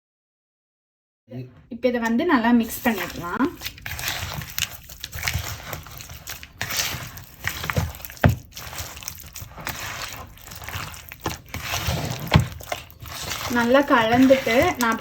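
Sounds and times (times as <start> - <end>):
wet stirring in a bowl: 2.0 - 15.0.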